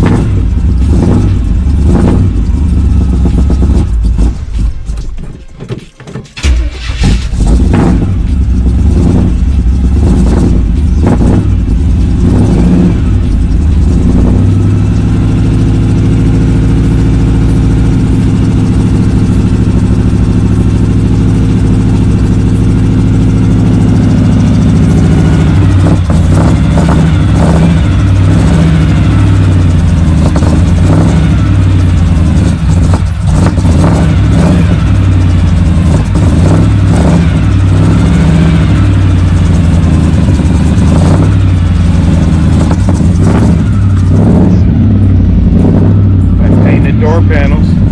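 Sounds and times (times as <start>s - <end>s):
car engine revving and idling: 0.0s - 47.9s.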